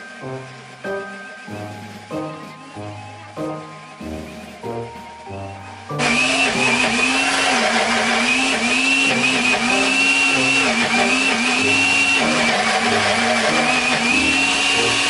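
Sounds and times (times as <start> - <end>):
blender motor whine: 0.0 - 15.0.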